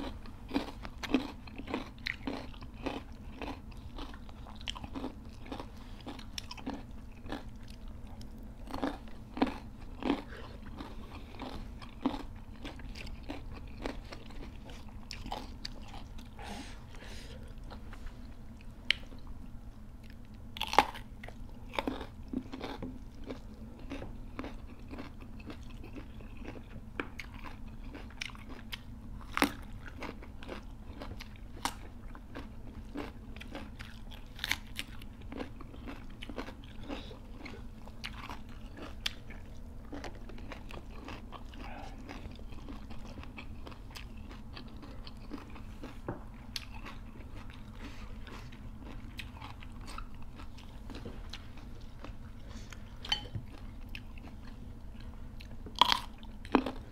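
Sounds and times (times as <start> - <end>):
chewing and crunching food: 0.0 - 56.9
steady low hum: 0.0 - 56.9.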